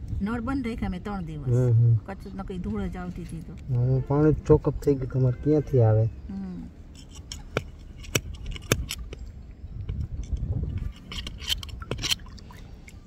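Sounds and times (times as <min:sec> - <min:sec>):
low rumbling: 0:00.0 - 0:13.0.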